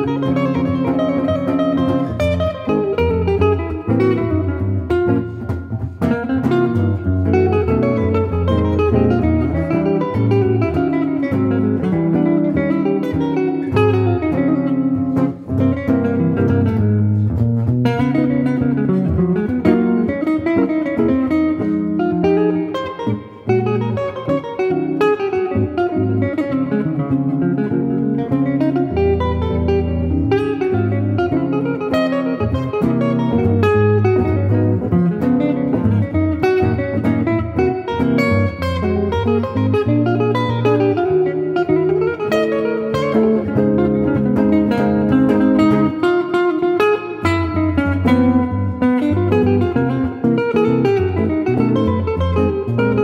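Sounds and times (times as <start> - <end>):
two electric guitars playing: 0.0 - 53.0.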